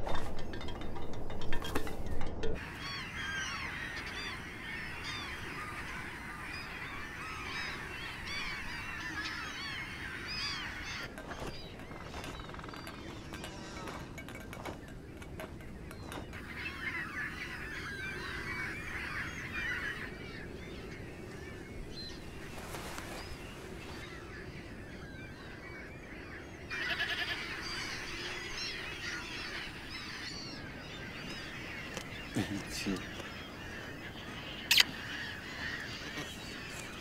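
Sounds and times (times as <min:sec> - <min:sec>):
low rumble of wind: 0:00.0 - 0:37.0
flock of birds calling: 0:01.7 - 0:37.0.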